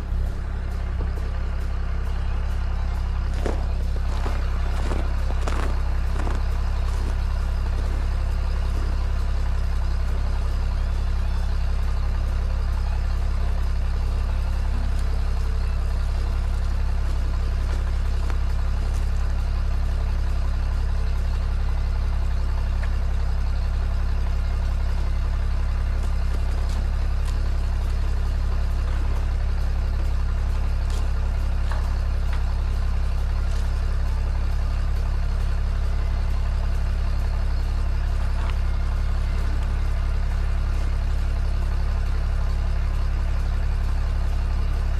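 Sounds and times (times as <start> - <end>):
old engine idling: 0.0 - 44.9.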